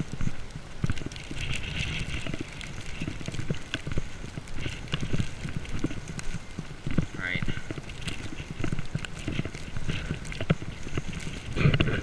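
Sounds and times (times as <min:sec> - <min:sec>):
footsteps crunching in deep snow: 0:00.0 - 0:12.0.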